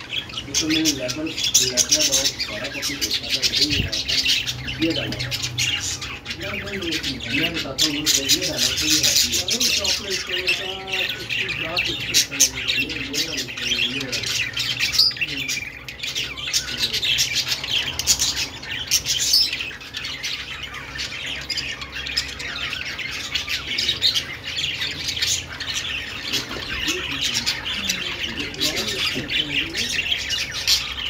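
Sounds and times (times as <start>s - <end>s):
budgerigars chirping and chattering: 0.0s - 31.0s.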